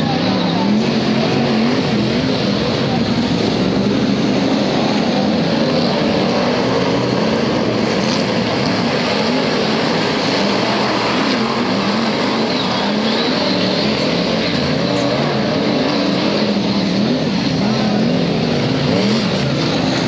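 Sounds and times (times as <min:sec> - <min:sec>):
engine and track noise: 0:00.0 - 0:20.0
race car engines revving: 0:00.0 - 0:20.0.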